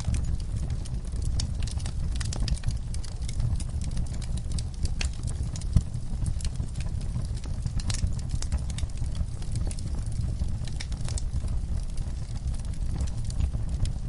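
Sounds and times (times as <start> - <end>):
burning logs crackling and popping: 0.0 - 14.0
fire flames rumbling: 0.0 - 14.0.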